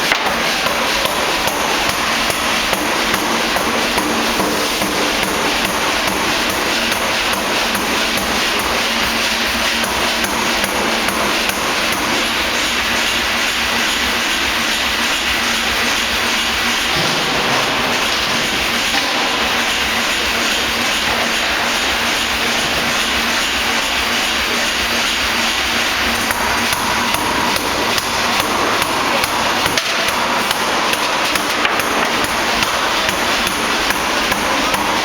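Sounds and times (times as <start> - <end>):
pneumatic forging hammer blows: 0.0 - 35.0.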